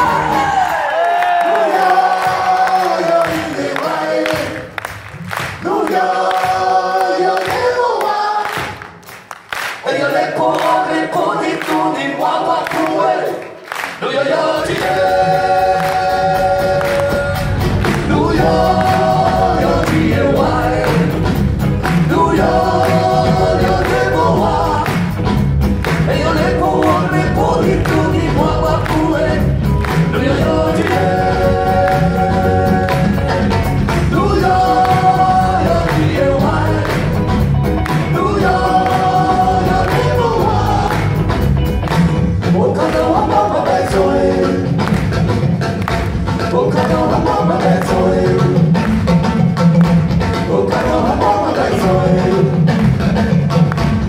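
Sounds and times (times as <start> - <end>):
voices singing together: 0.0 - 9.0, 9.7 - 41.6, 42.3 - 49.4, 50.2 - 54.0.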